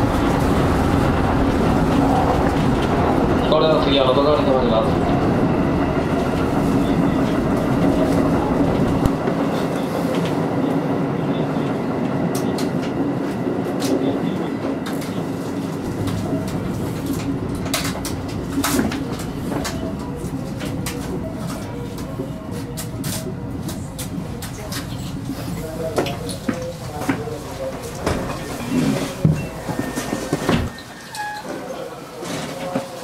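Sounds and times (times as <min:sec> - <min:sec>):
train motors humming: 0:00.0 - 0:30.8.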